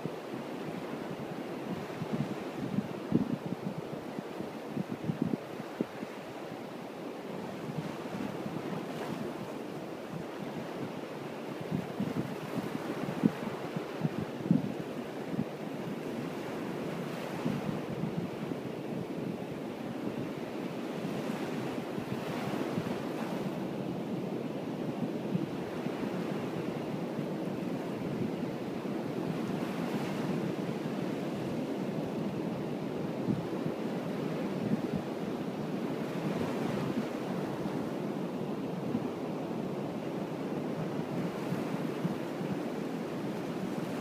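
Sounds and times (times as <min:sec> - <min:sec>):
wind on microphone: 0:00.0 - 0:44.0.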